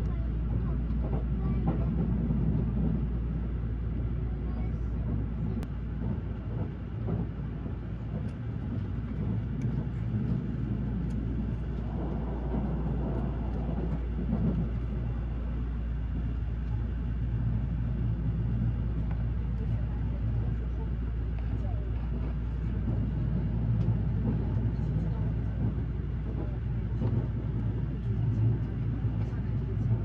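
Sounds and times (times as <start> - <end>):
train rumbling inside carriage: 0.0 - 30.0.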